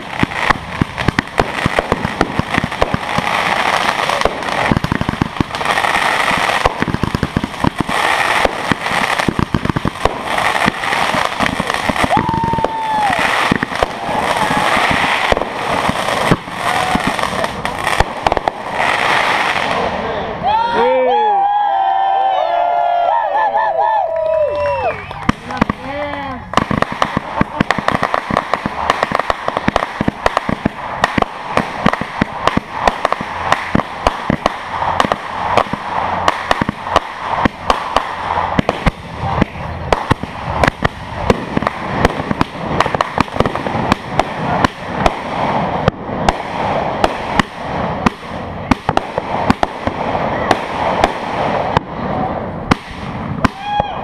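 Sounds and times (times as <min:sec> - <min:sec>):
fireworks bangs and crackles: 0:00.0 - 0:23.2, 0:23.8 - 0:54.0.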